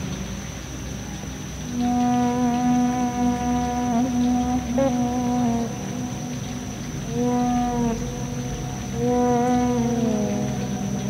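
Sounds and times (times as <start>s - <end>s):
distant music: 0.0s - 11.0s
faint high steady tone: 0.0s - 11.0s
steady background hiss: 0.0s - 11.0s.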